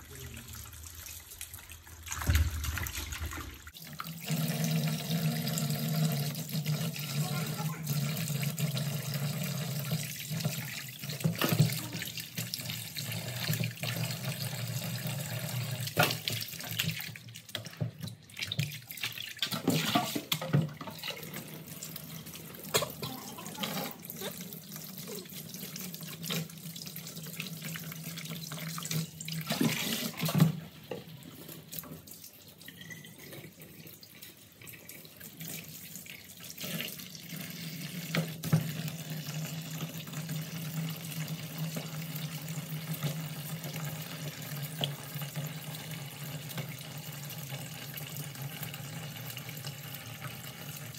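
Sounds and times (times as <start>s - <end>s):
tap water pouring into basin: 0.0s - 50.9s.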